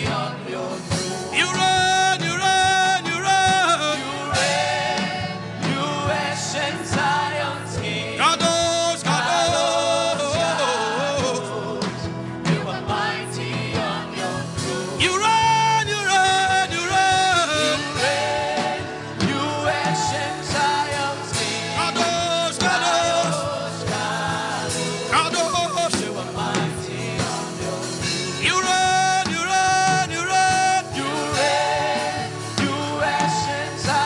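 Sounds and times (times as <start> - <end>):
worship music with singing: 0.0 - 34.0.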